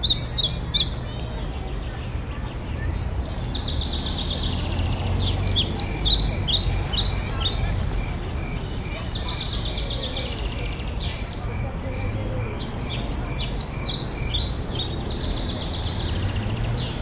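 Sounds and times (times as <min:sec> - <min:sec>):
songbirds trilling: 0:00.0 - 0:17.0.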